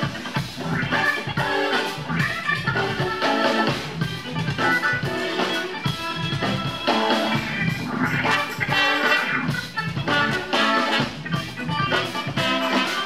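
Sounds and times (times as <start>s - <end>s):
jazz-funk band playing: 0.0s - 13.0s
keyboard chord stabs: 0.0s - 13.0s.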